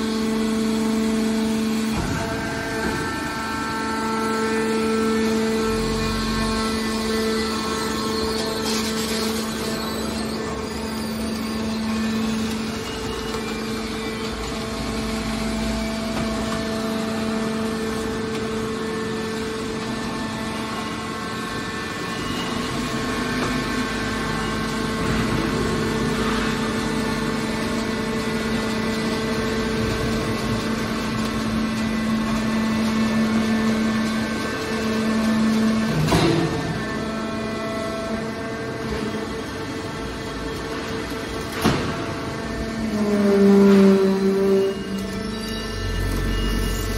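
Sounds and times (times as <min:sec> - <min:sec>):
hydraulic pump motor humming: 0:00.0 - 0:46.9.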